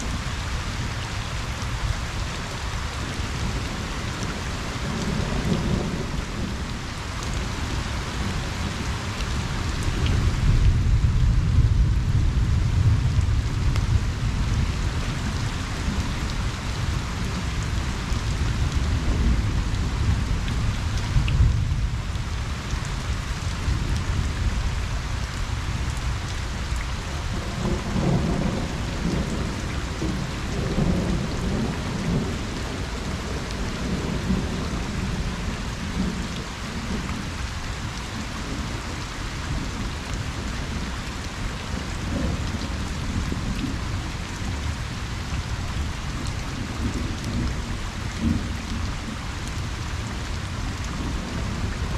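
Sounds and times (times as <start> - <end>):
rain pattering on a pond: 0.0 - 51.9
low thunder rumbling: 3.0 - 49.1.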